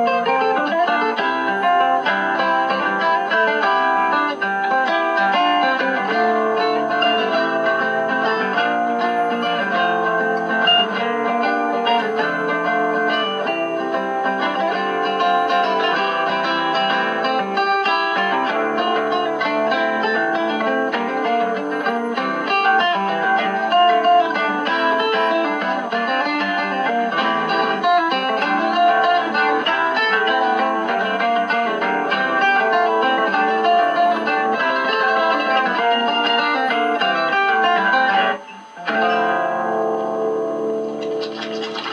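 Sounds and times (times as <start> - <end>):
guitar through small radio speaker: 0.0 - 41.9.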